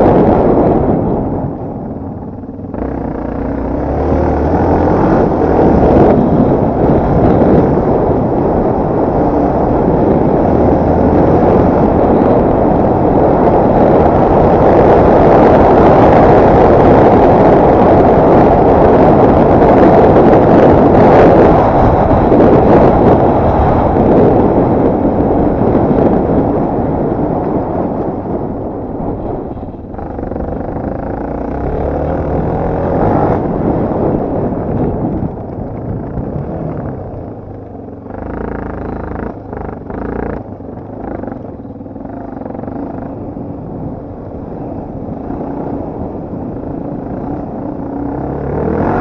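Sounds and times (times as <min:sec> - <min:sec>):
dirt bike engine running: 0:00.0 - 0:49.0
wind rush on microphone: 0:00.0 - 0:49.0.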